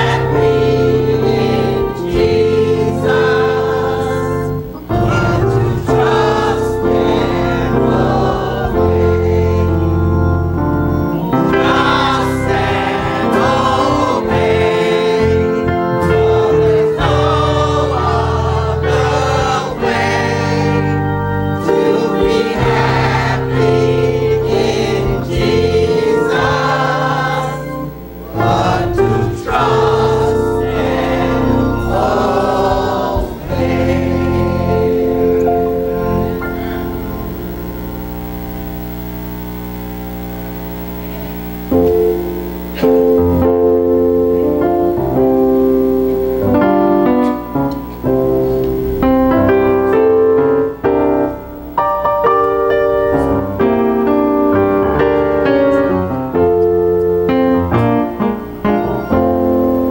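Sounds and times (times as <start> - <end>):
choir singing a hymn: 0.0 - 38.5, 41.6 - 59.9
sustained organ notes: 0.0 - 59.9.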